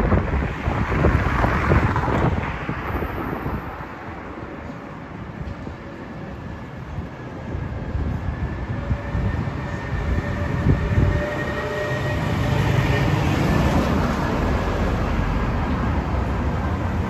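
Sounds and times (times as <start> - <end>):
rail vehicle rumbling: 0.0 - 17.0.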